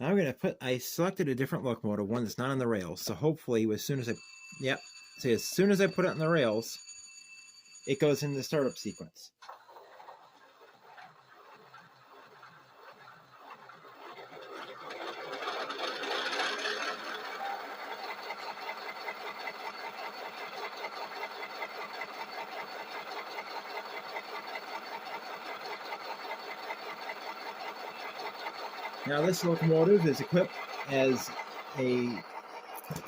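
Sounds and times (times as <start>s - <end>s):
model diesel locomotive engine: 0.0s - 33.0s.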